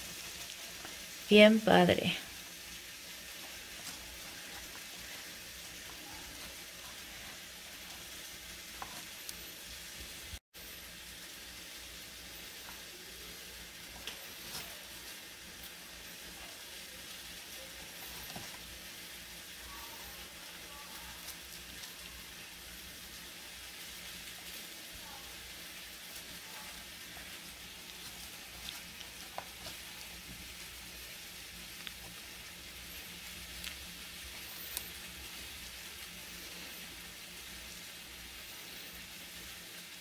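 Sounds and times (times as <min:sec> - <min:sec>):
vegetables sizzling in frying pan: 0:00.0 - 0:40.0
cheese crumbling crackles: 0:02.2 - 0:10.1, 0:12.4 - 0:39.9.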